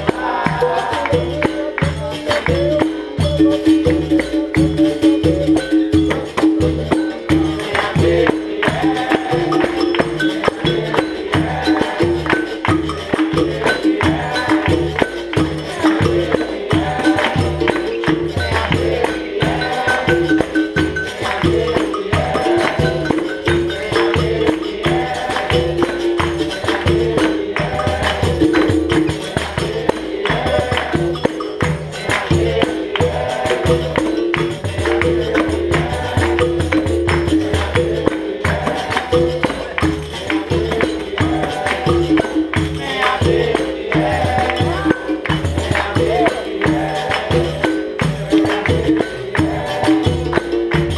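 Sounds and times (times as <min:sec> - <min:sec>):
hand drum rhythm: 0:00.0 - 0:50.9
tambourine rhythm: 0:00.0 - 0:50.9
voices singing: 0:00.0 - 0:50.9.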